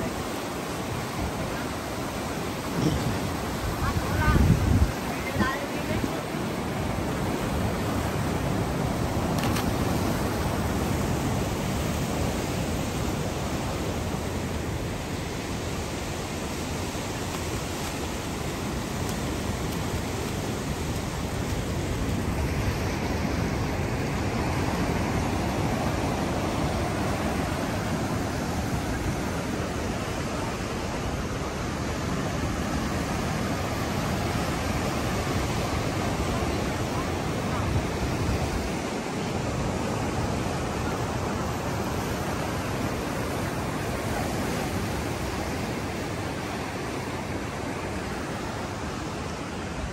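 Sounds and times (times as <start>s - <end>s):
sea waves and surf: 0.0s - 49.9s.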